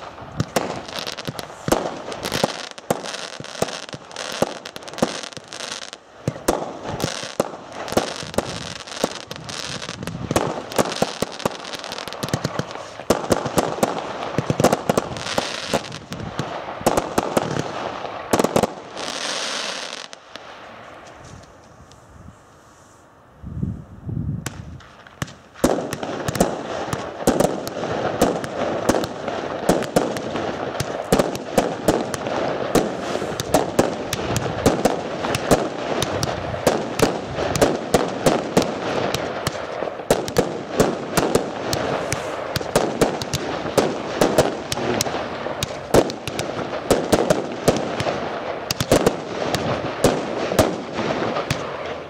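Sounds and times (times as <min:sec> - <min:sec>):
fireworks crackling and banging: 0:00.0 - 0:22.0, 0:24.4 - 0:52.0.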